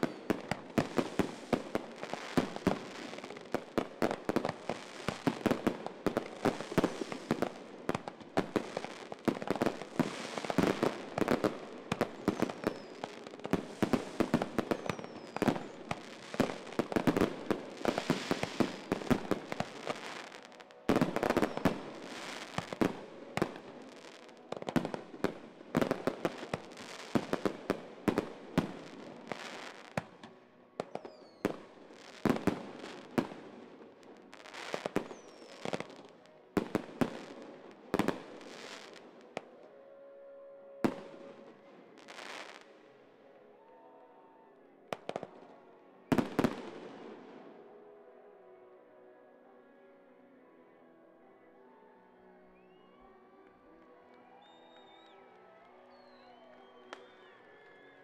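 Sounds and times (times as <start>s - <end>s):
fireworks bursts and crackling: 0.0s - 39.7s, 40.8s - 42.8s, 44.9s - 47.6s, 54.4s - 58.0s.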